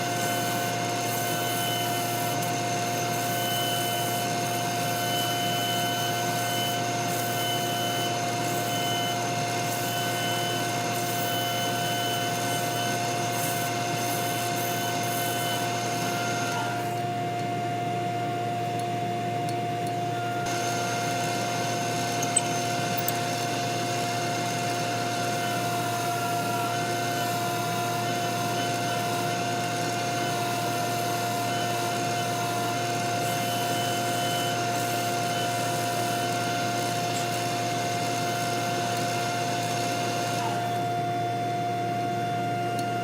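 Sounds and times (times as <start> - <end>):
lathe motor hum: 0.0 - 18.8, 19.5 - 43.0.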